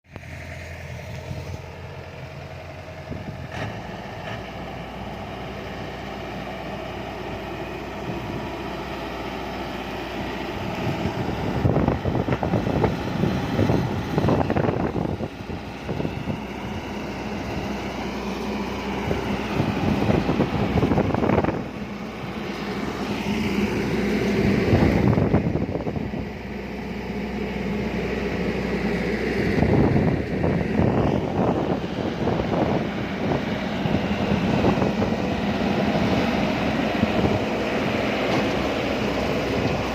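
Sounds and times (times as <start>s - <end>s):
farm machinery engine running: 0.1s - 39.9s.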